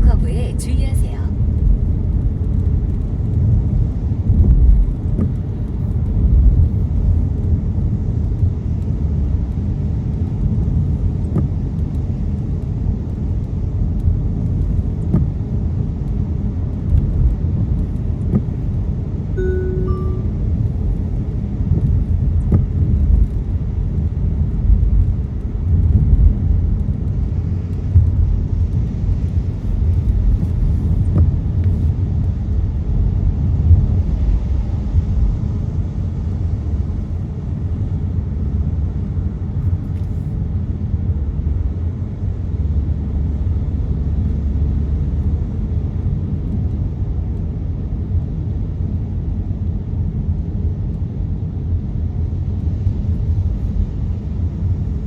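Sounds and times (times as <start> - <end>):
car tyres and engine rumble: 1.4 - 19.4, 20.6 - 55.0.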